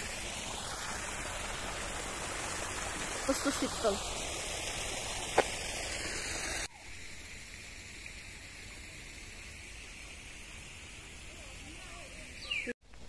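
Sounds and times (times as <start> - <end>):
steady hiss: 0.0 - 12.5
fountain water splashing: 0.0 - 12.7.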